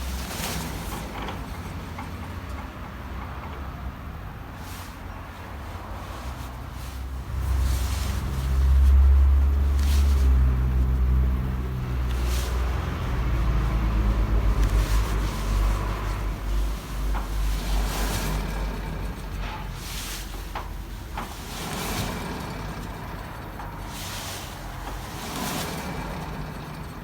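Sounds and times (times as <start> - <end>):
car rumbling while driving: 0.0 - 27.0.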